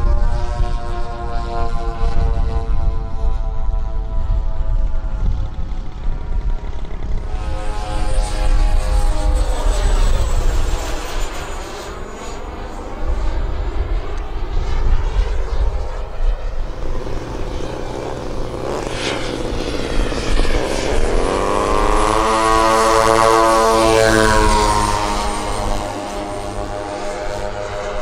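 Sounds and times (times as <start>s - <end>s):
model aircraft engine: 0.0s - 28.0s
propeller engines at full power: 0.0s - 28.0s.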